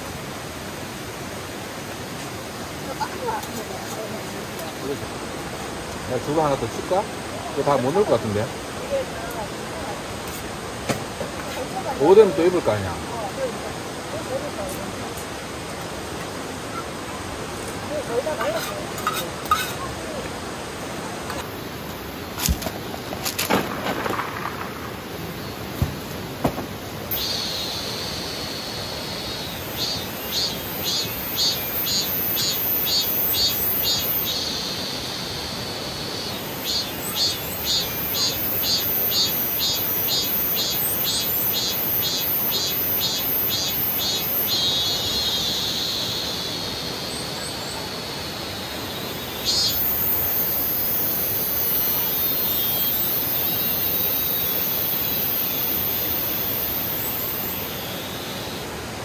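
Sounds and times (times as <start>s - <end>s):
cicadas calling: 0.0s - 59.0s
continuous high buzz: 0.0s - 59.0s
creek rushing: 0.0s - 59.0s.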